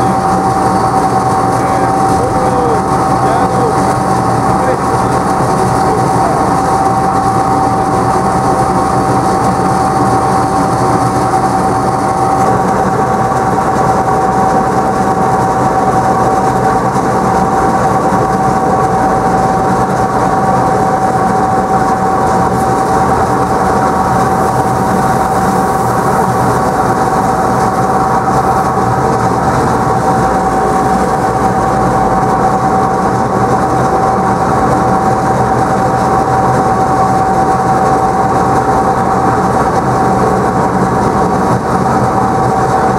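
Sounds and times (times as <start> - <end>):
machine whine: 0.0 - 42.9.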